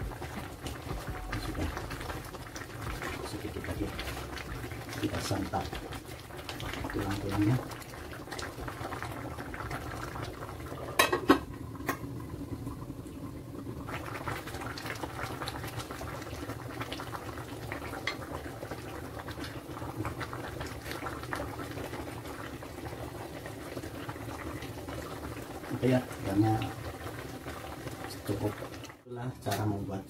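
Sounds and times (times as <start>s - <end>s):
soup bubbling: 0.0s - 29.1s.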